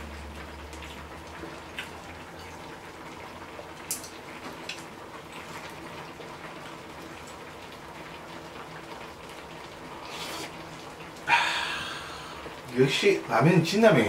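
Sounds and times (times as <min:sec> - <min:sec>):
broth bubbling in a pot: 0:00.0 - 0:14.0.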